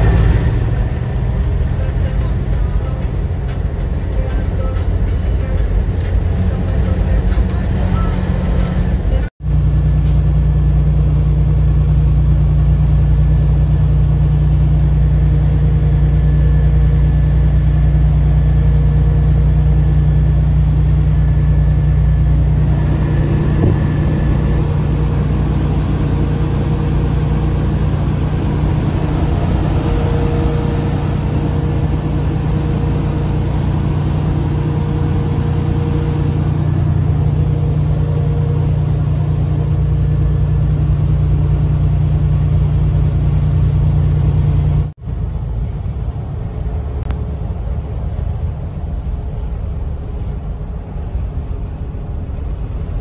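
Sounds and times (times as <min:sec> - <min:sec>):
semi truck driving on road: 0:00.0 - 0:53.0.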